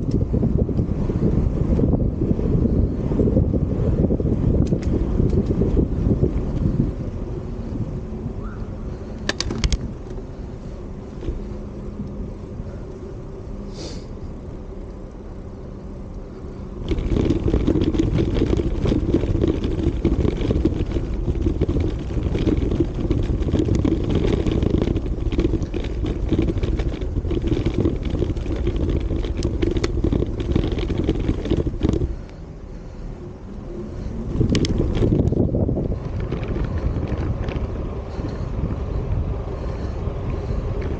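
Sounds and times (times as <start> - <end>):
wind buffeting microphone: 0.0 - 12.9, 16.3 - 40.9
road rumble: 0.0 - 40.9.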